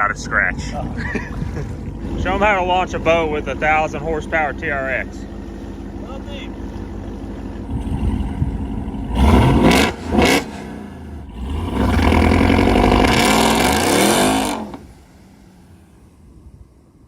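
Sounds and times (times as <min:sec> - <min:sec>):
pickup truck engine revving: 0:00.0 - 0:16.6.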